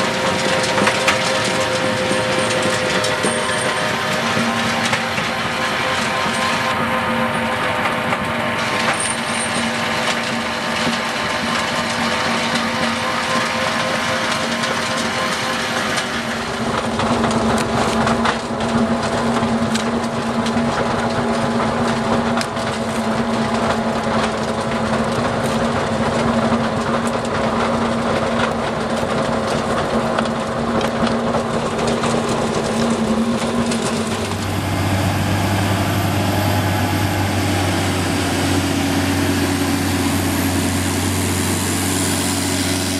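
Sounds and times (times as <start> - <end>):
grader engine drone: 0.0 - 42.9
gravel knocking and rattling: 0.0 - 42.9
stone crusher running: 0.0 - 42.9.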